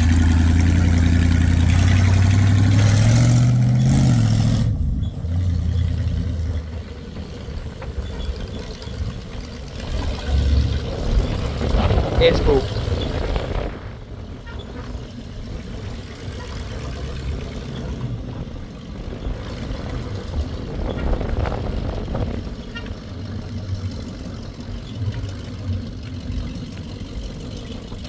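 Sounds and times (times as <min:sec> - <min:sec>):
truck engine rumbling: 0:00.0 - 0:28.0.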